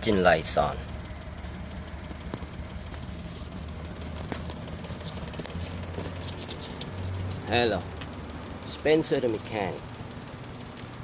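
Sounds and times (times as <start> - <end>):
car engine idling unevenly: 0.0 - 11.0.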